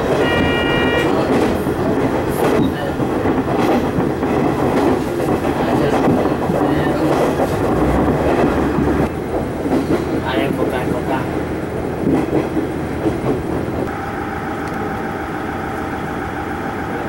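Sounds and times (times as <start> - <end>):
wheels clicking over rail joints: 0.0 - 13.9
train engine and wheels rumbling: 0.0 - 17.0.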